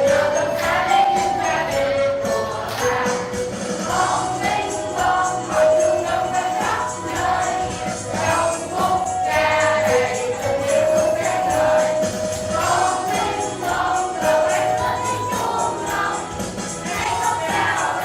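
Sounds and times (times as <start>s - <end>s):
backing track with percussion beat: 0.0s - 18.0s
children singing together: 0.0s - 18.0s.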